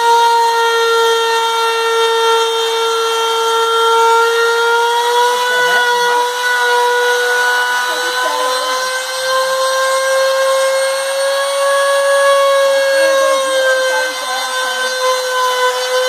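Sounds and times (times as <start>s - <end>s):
router spindle whining: 0.0s - 16.0s.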